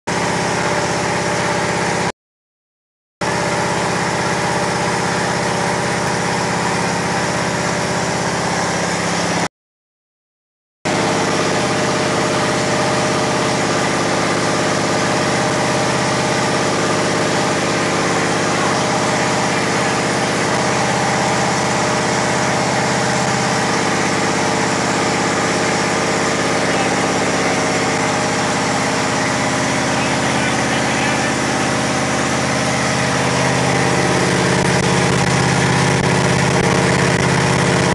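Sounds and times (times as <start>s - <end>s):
car engine running steadily: 0.1s - 2.1s, 3.2s - 9.5s, 10.9s - 37.9s.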